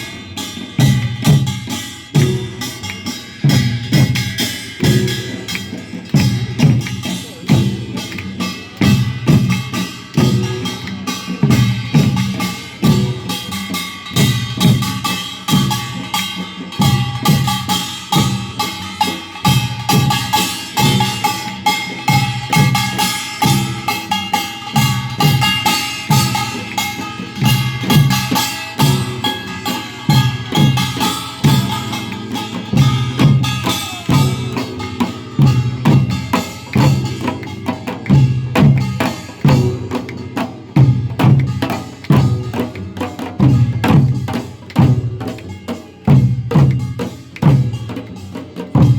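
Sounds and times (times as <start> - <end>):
drums struck in a steady beat: 0.0 - 48.9.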